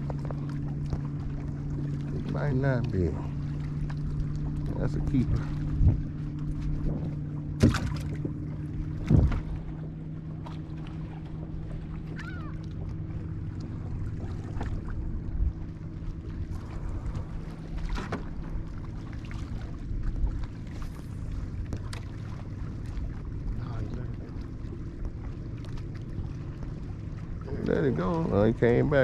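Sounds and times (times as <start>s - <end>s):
boat motor humming: 0.0s - 29.0s
light wind: 0.0s - 29.0s
water noise: 0.0s - 29.0s.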